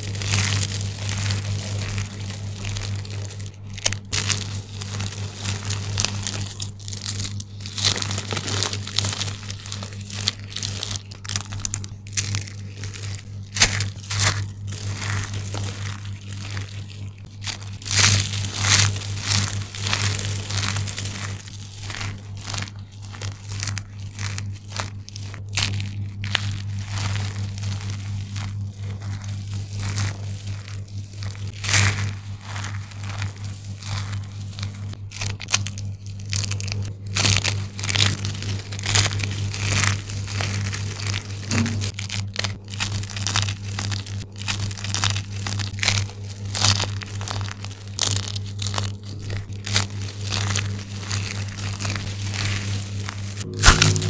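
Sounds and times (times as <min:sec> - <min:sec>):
hands crunching dry soap shavings: 0:00.0 - 0:54.0
steady low hum: 0:00.0 - 0:54.0.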